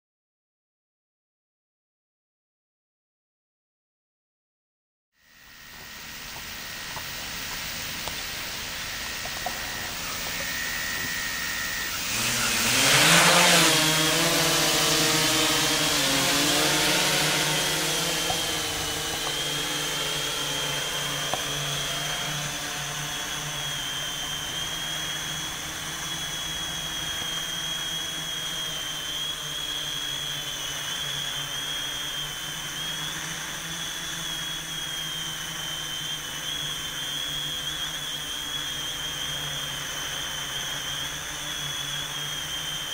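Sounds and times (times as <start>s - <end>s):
drone propellers whining: 5.2s - 42.9s.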